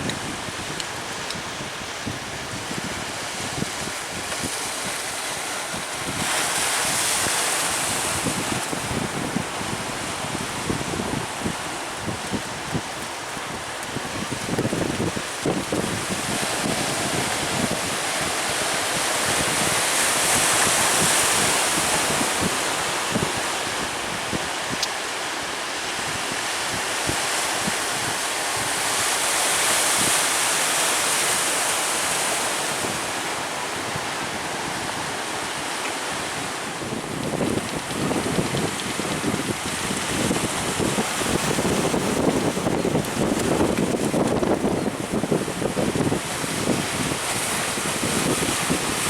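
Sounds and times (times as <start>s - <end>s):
wind buffeting microphone: 0.0s - 25.0s, 32.1s - 49.0s
sea surf breaking: 0.0s - 49.0s.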